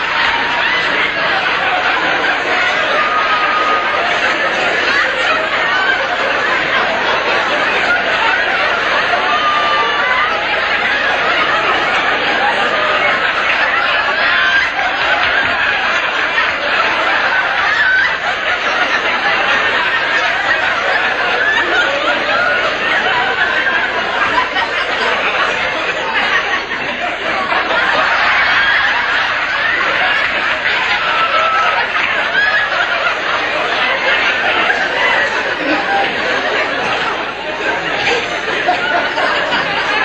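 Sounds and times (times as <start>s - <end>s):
audience laughing: 0.0s - 40.0s.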